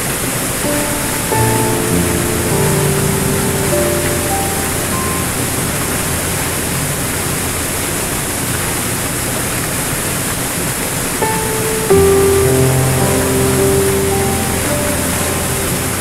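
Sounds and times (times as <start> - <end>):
soft piano notes: 0.0 - 16.0
waterfall rushing over rocks: 0.0 - 16.0.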